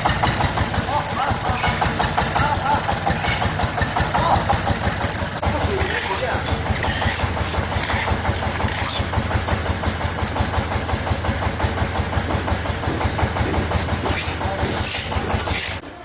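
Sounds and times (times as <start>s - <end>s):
concrete pump engine pulsing: 0.0s - 16.0s.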